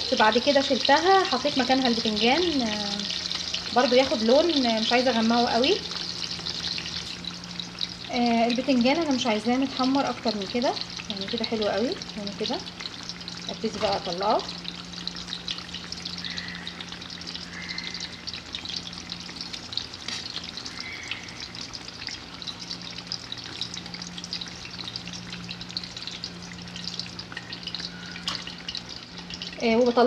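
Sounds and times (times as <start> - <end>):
eggplant sizzling in oil: 0.0 - 30.0.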